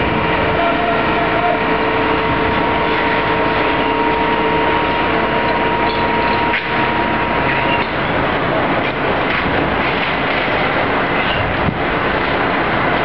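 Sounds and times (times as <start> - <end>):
fire truck engine running: 0.0 - 13.0.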